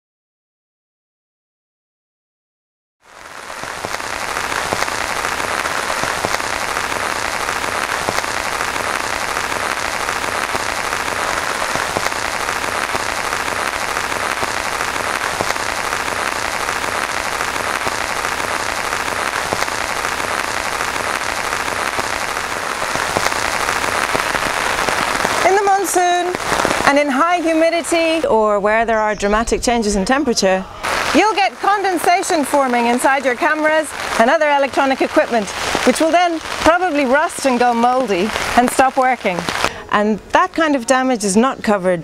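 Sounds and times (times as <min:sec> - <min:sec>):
heavy rain splashing: 0:03.1 - 0:28.3, 0:30.8 - 0:39.8.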